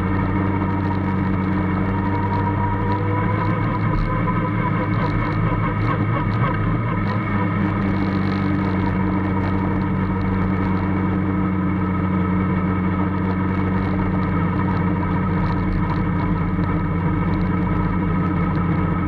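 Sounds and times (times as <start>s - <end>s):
race car engine running: 0.0s - 19.0s.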